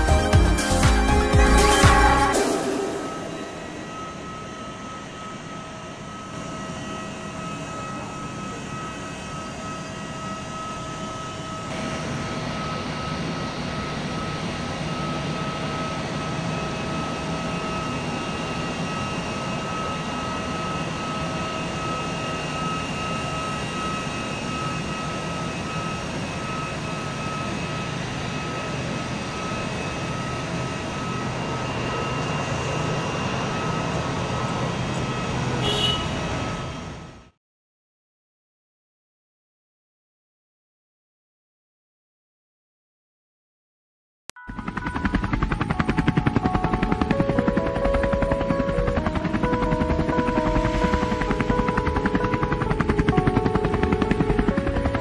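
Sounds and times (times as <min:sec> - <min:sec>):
jet engines whining: 0:00.0 - 0:37.3, 0:44.5 - 0:55.0.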